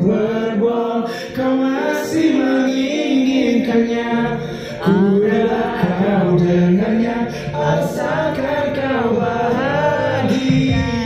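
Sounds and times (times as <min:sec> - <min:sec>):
music through sound system: 0:00.0 - 0:11.0
person singing into microphone: 0:00.0 - 0:11.0.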